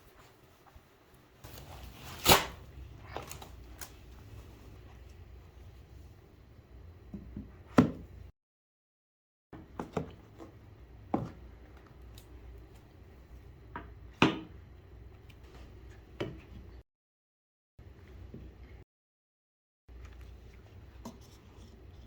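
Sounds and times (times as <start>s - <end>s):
faint room hum: 0.0s - 8.3s, 9.6s - 16.8s, 19.9s - 22.0s.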